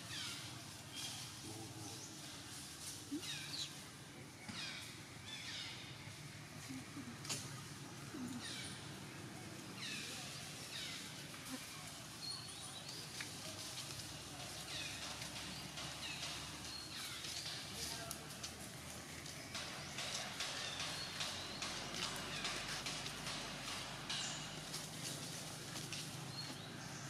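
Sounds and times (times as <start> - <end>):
dry leaves crackling and rustling: 0.1 - 20.8, 21.5 - 27.0.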